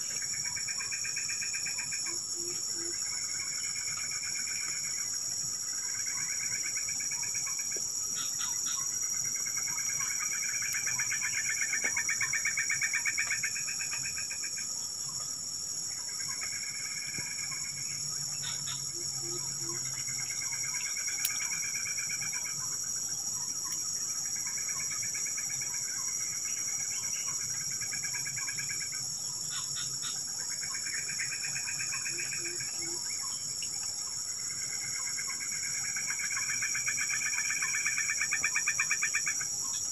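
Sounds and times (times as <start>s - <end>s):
high-pitched insect chorus: 0.0s - 39.9s
pulsed insect trill: 0.0s - 39.9s.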